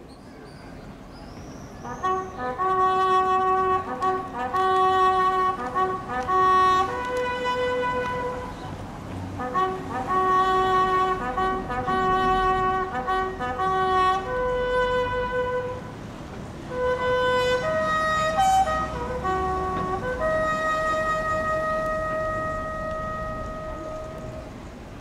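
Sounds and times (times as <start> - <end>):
bugle call: 1.8 - 8.6, 9.4 - 15.9, 16.7 - 24.6.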